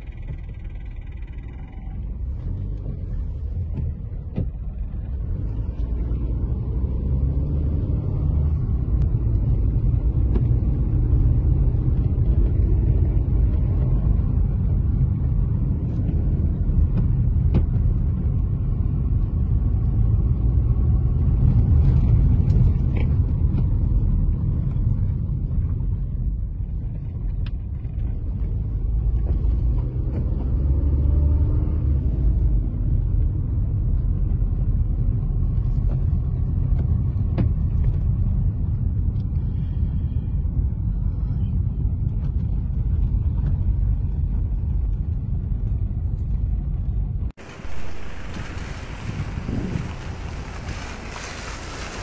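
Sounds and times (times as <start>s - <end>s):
car road and engine rumble: 0.0s - 52.0s.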